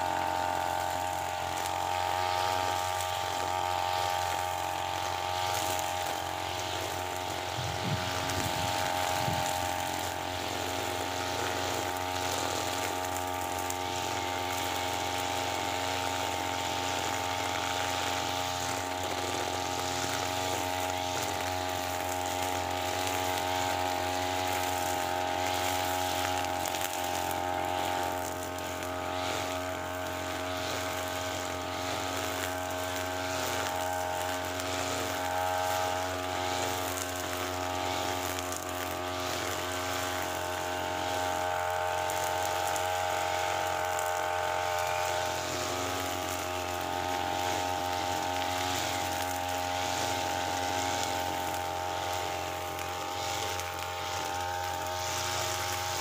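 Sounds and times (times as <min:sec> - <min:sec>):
brushcutter engine droning: 0:00.0 - 0:56.0
nylon line cutting grass: 0:00.0 - 0:56.0.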